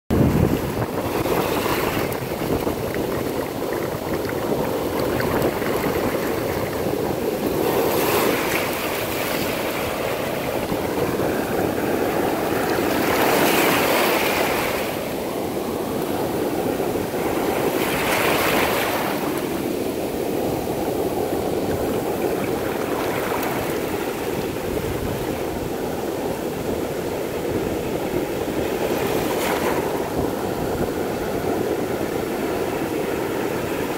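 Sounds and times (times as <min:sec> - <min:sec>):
foaming surf washing: 0:00.1 - 0:33.9
waves crashing: 0:00.1 - 0:33.9.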